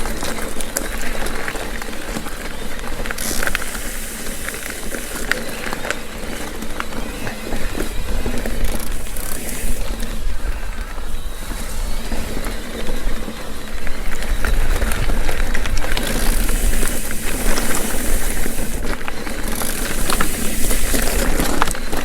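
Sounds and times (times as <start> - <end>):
bike rattling in quick clicks: 0.0 - 22.0
bike tyres rolling on dirt: 0.0 - 22.0
wind rumbling on microphone: 0.0 - 22.0.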